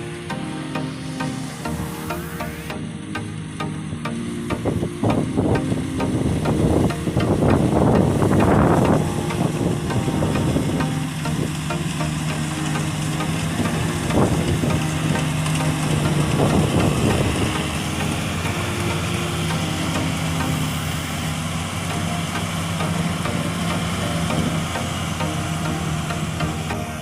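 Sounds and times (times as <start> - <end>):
combine harvester engine drone: 0.0 - 27.0
machinery hiss: 5.4 - 27.0.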